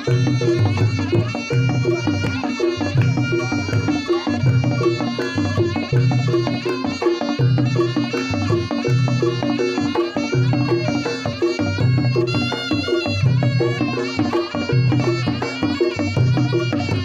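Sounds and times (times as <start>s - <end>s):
gamelan ensemble playing: 0.0s - 17.0s
hand drum drumming: 0.0s - 17.0s
reedy wind instrument melody: 0.0s - 17.0s
struck percussion: 0.0s - 17.0s.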